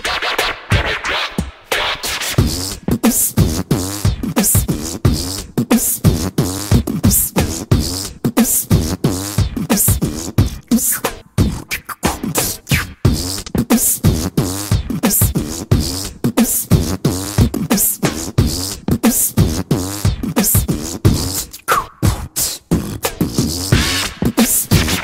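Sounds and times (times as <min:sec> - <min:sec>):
beatboxing: 0:00.0 - 0:25.0.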